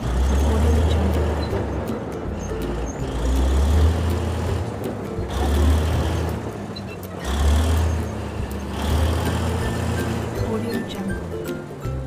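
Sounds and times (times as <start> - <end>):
music with pulsing bass: 0.0 - 12.0.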